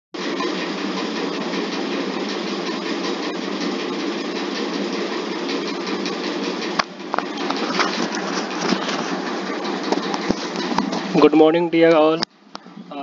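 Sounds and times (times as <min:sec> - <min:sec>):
steady background machinery noise: 0:00.2 - 0:13.0.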